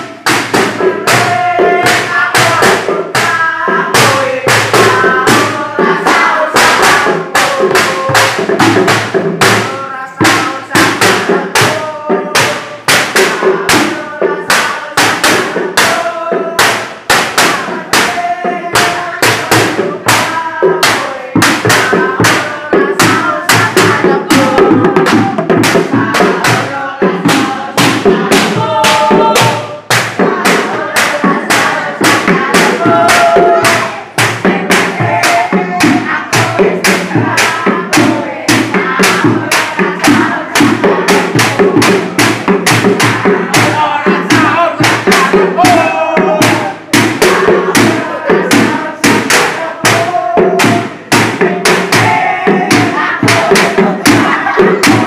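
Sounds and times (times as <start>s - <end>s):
music with fast drum beat: 0.0s - 55.0s.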